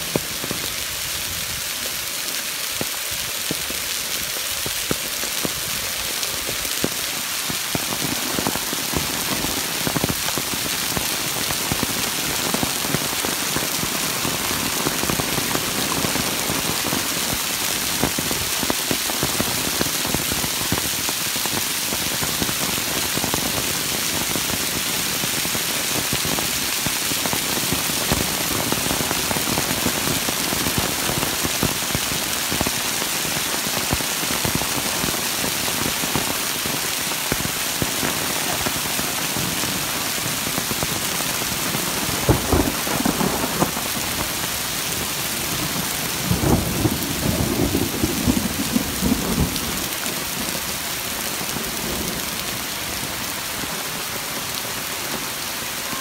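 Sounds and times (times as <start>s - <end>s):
heavy rain on paving: 0.0s - 56.0s.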